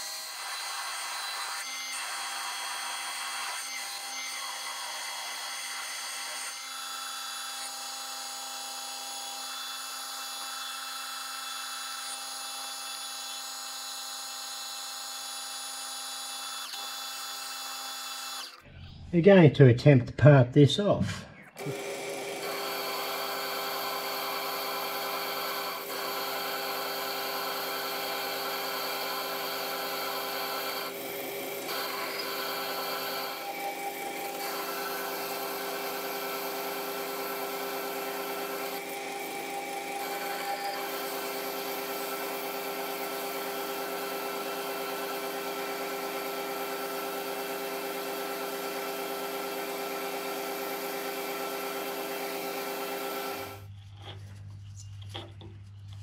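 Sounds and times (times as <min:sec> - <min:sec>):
metal lathe cutting whine: 0:00.0 - 0:18.6, 0:21.6 - 0:53.6.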